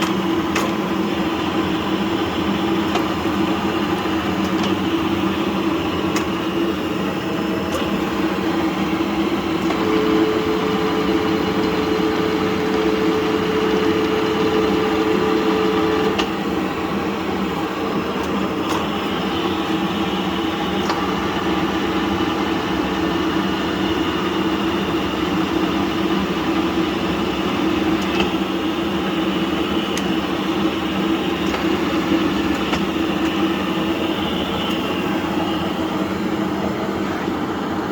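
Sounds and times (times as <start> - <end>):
milling machine humming and whining: 0.0 - 37.9.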